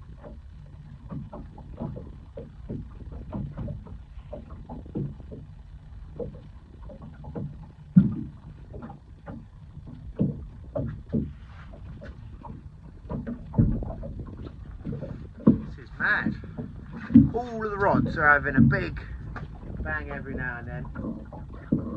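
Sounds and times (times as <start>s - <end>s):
low rumble: 0.0s - 21.9s
waves lapping against boat hull: 0.0s - 21.9s.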